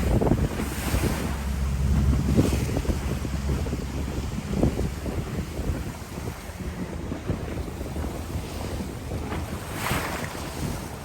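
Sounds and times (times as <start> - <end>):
water rushing against hull: 0.0 - 11.0
wind buffeting microphone: 0.0 - 11.0.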